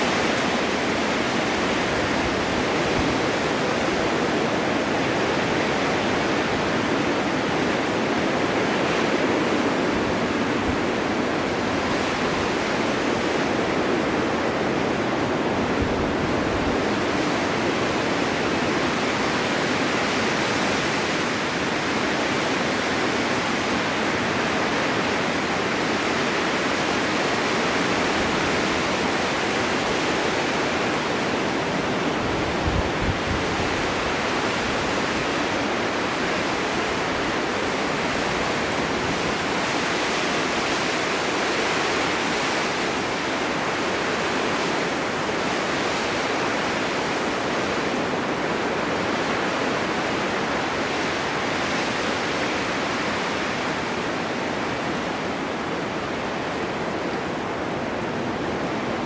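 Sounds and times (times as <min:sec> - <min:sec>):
snowstorm wind blowing: 0:00.0 - 0:59.0
wind gust rumble on microphone: 0:00.0 - 0:59.0.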